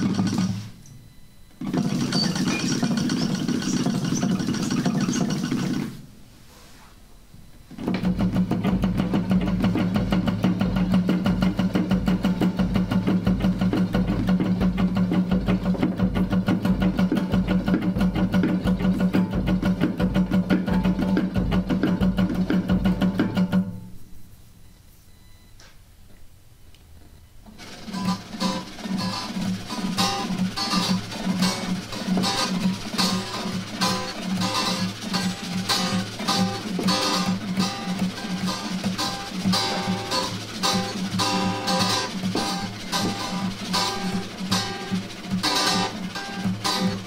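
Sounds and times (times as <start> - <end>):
acoustic guitar tremolo strumming: 0.0 - 6.2, 7.6 - 24.2, 27.5 - 47.0.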